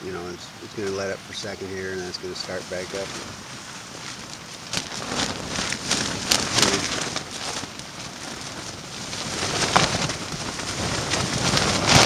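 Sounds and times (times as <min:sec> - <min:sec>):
tent fabric flapping: 0:00.8 - 0:12.0.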